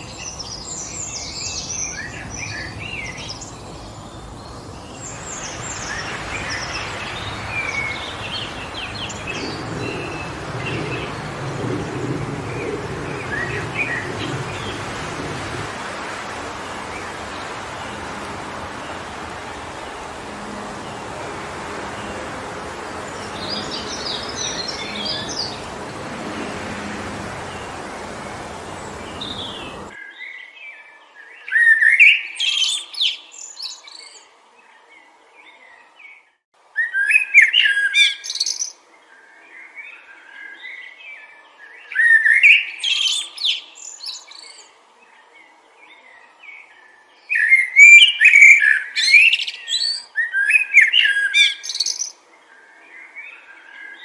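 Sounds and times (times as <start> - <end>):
songbird singing: 0.0 - 36.2, 36.8 - 54.0
wind through forest trees: 0.0 - 54.0.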